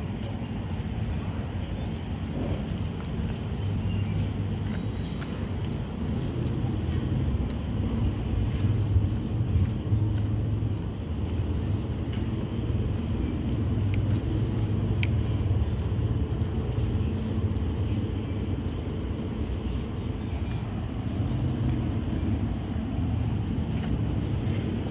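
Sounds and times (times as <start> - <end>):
low ambient rumble: 0.0 - 24.9.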